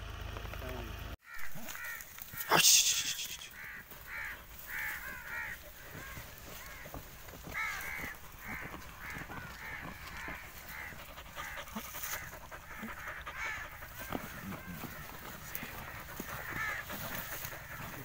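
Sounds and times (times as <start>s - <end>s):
crows cawing: 1.2s - 18.0s.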